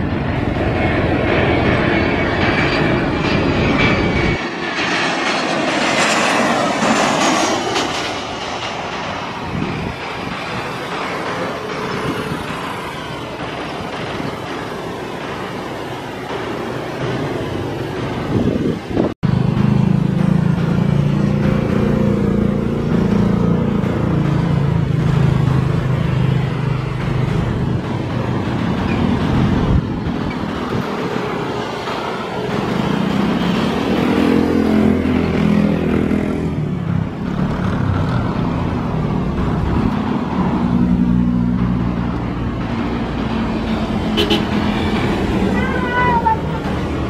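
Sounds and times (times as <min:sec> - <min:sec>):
jet airliner engine rumble: 0:00.0 - 0:47.0.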